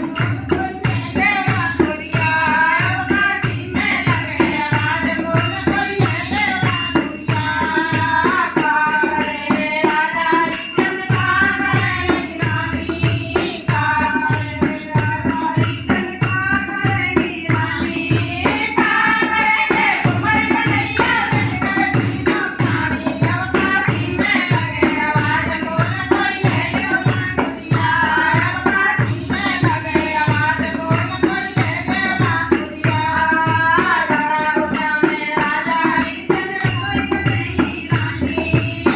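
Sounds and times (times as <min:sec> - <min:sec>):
devotional folk song singing: 0:00.0 - 0:38.9
jingling percussion: 0:00.0 - 0:38.9
steady drum beat: 0:00.0 - 0:38.9.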